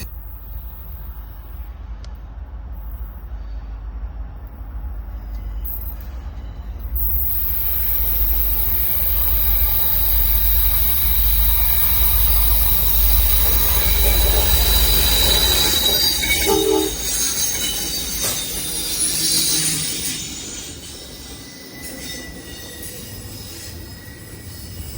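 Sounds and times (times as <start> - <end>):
train rumble: 0.0 - 24.9
train wheels squealing: 2.8 - 24.9.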